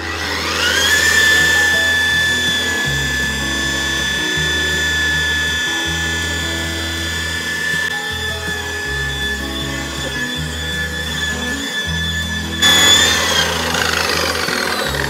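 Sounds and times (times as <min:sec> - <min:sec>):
background music with bassline: 0:00.0 - 0:15.0
electric polisher whining: 0:00.0 - 0:15.0.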